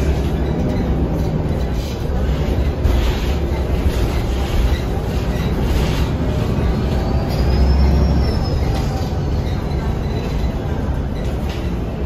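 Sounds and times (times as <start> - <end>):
bus drivetrain and road rumble: 0.0 - 12.0.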